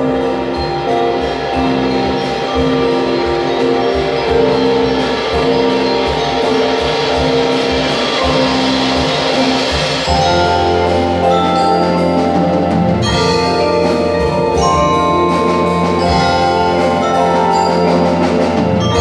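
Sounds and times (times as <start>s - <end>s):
band playing sustained chords: 0.0s - 19.0s
percussion strokes: 0.0s - 19.0s.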